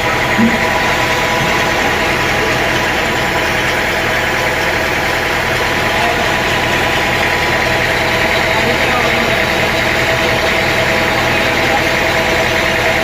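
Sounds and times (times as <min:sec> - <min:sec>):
sawmill machinery droning: 0:00.0 - 0:13.0.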